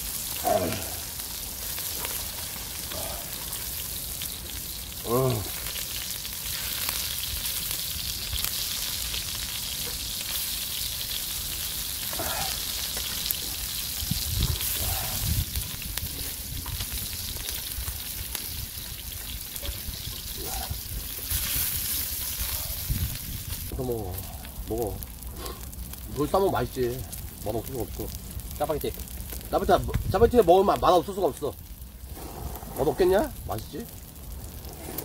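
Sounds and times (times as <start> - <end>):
meat sizzling on griddle: 0.0 - 35.0.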